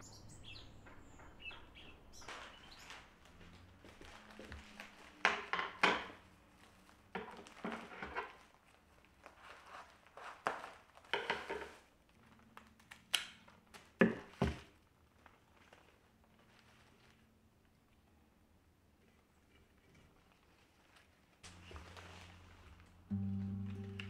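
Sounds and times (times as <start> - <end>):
plastic wrapping crinkling: 2.2 - 17.7, 19.7 - 24.0.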